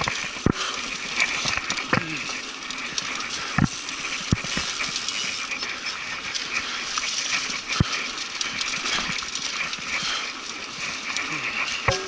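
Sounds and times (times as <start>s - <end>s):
bike rattling clicks: 0.0s - 12.0s
bike tires on dirt trail: 0.0s - 12.0s.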